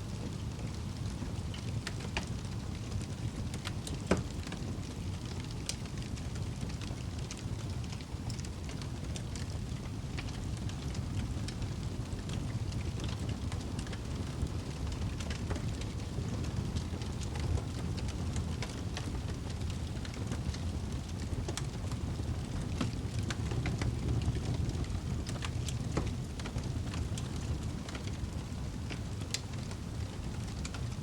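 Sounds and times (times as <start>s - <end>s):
fire crackling and popping: 0.0s - 31.0s
wood fire flames rumbling: 0.0s - 31.0s.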